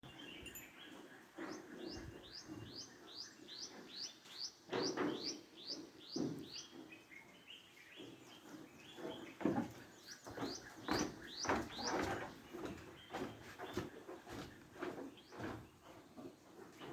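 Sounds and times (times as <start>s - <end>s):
bird chirping: 0.0s - 16.9s.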